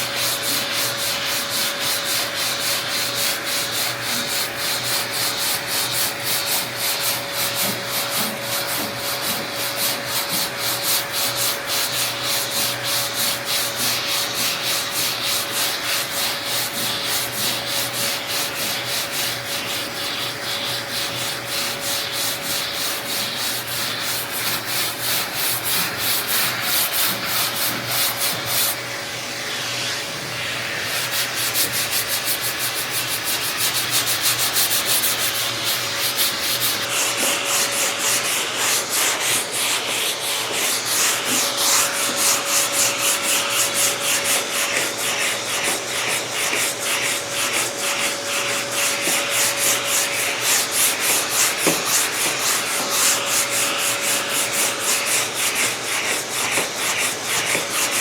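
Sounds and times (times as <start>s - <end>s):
sandpaper sanding strokes: 0.0s - 58.0s.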